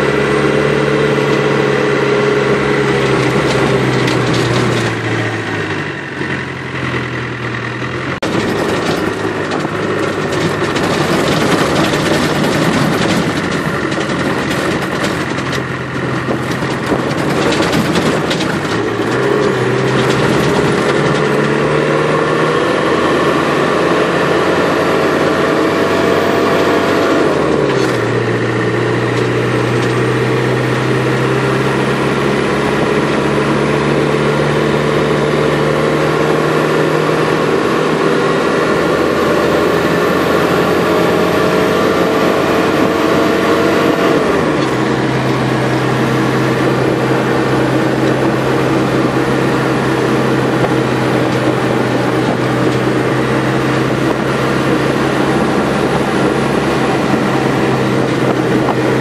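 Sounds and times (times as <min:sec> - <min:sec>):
buggy engine running: 0:00.0 - 0:59.0.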